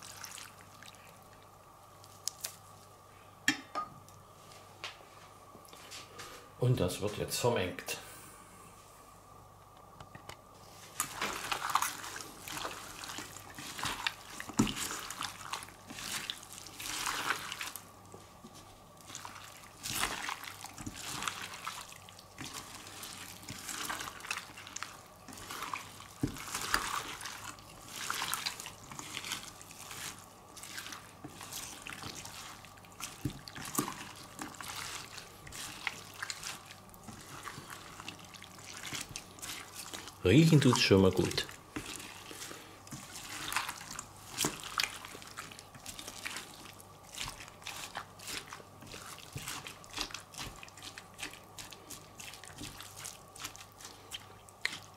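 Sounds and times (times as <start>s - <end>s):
wet squishing of meat in marinade: 0.0s - 3.0s, 10.6s - 54.9s.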